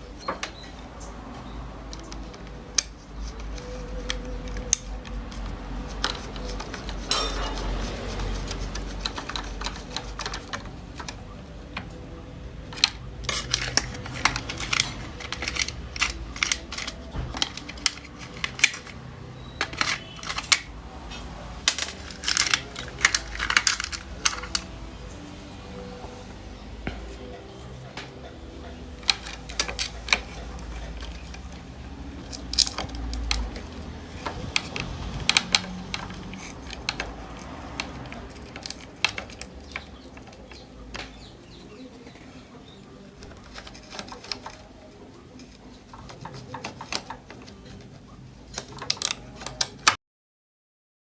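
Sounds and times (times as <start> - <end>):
small hard objects clicking: 0.2 - 12.0, 12.7 - 20.7, 21.6 - 24.8, 29.0 - 41.7, 42.6 - 44.8, 45.4 - 50.0.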